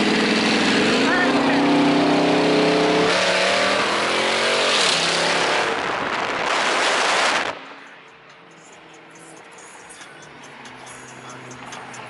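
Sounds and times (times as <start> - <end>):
car engine passing: 0.0 - 12.0
road noise inside car: 0.0 - 12.0
rush of engine and wind: 0.0 - 12.0.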